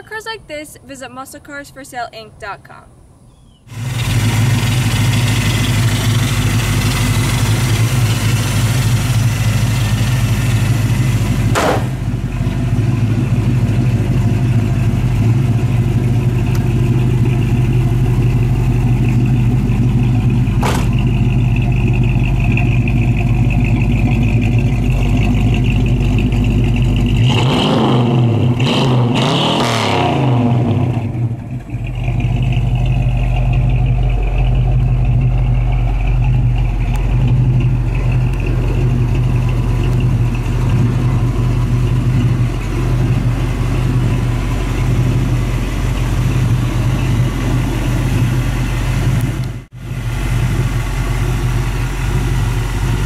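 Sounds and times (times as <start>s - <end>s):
car engine idling: 3.7s - 53.0s.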